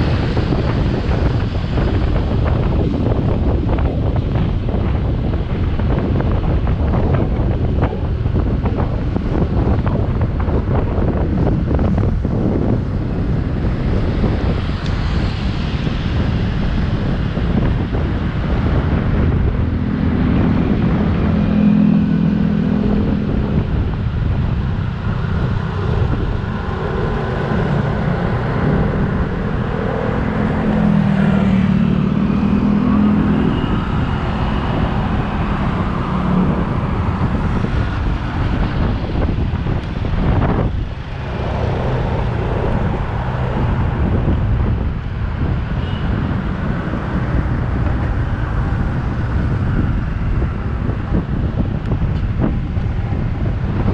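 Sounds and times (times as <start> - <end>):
other vehicles: 0.0 - 53.9
road noise: 0.0 - 53.9.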